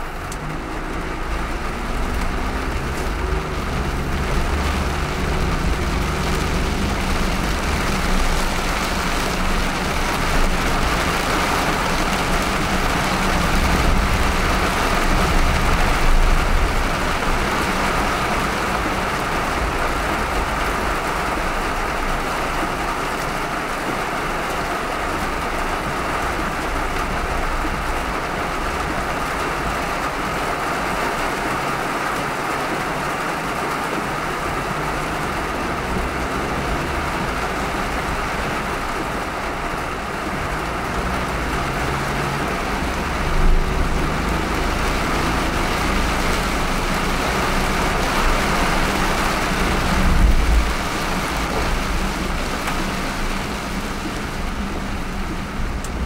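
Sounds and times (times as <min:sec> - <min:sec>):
rain and tyre spray hiss: 0:00.0 - 0:56.0
road and engine rumble: 0:00.0 - 0:56.0.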